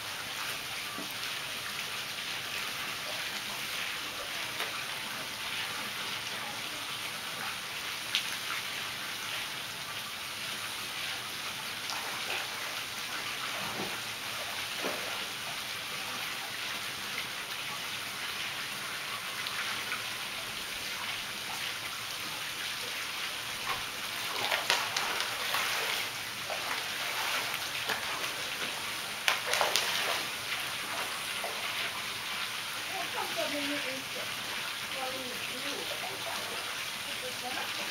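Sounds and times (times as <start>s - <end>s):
water splashing into pool: 0.1s - 37.9s.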